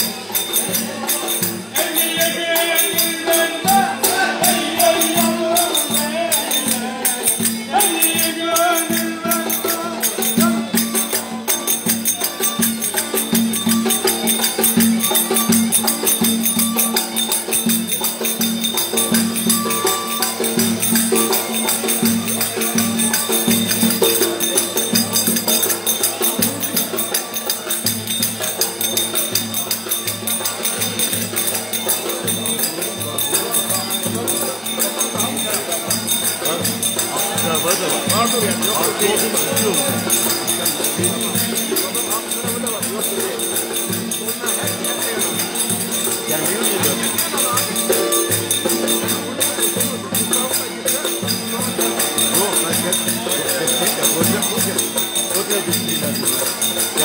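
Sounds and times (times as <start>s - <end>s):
drum beating: 0.6s - 56.3s.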